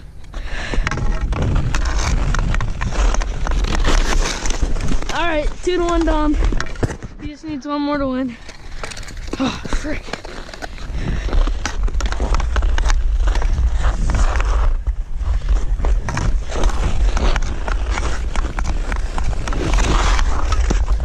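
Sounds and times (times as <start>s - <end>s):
skates scraping on ice: 0.0s - 21.0s
wind rumble on microphone: 0.0s - 21.0s.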